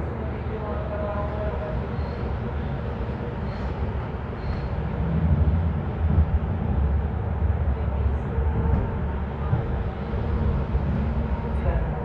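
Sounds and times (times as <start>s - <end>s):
light rail train rumble: 0.0s - 12.0s.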